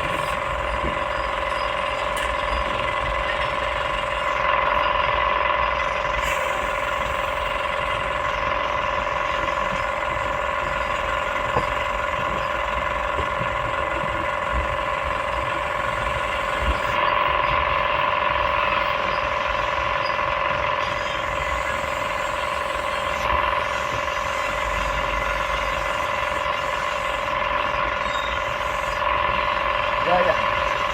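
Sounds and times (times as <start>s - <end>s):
excavator diesel engine running: 0.0s - 30.9s
steady whine: 0.0s - 30.9s.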